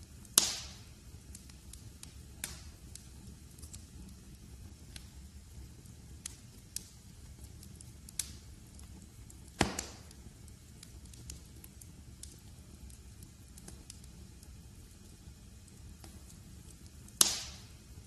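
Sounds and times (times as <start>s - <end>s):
low steady rumble: 0.0s - 18.0s
sharp pops and snaps of fire: 0.0s - 18.0s
wood fire crackling: 0.0s - 18.0s.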